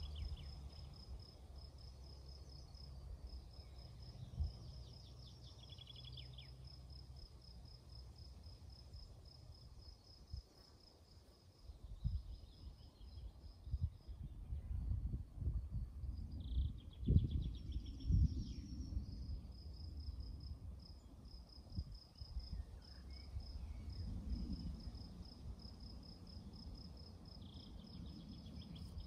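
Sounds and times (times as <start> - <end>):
insect chirping: 0.0 - 29.0.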